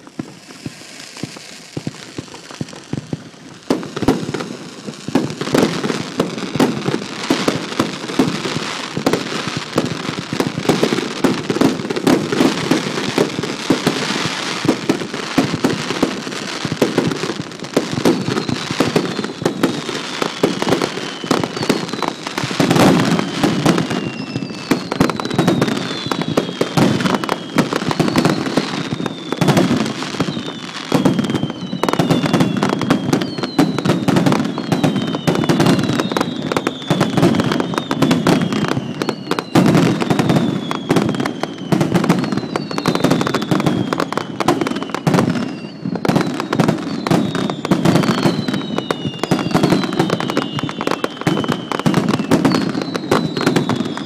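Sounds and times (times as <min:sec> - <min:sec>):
falling firework whistles: 0:00.0 - 0:54.0
fireworks crackling: 0:00.0 - 0:54.0.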